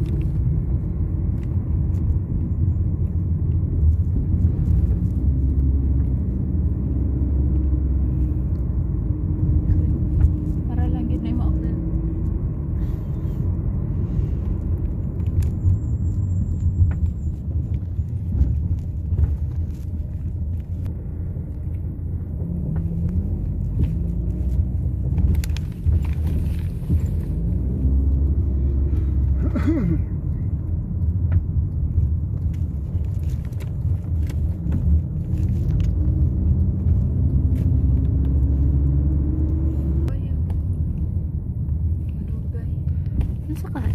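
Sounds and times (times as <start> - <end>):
car tyre and engine rumble: 0.0 - 43.9.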